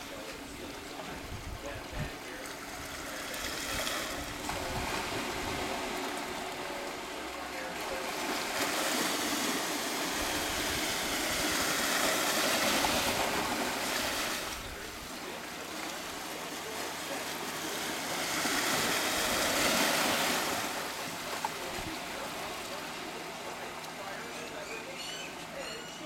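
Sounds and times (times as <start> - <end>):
water washing in small waves: 0.0 - 26.0.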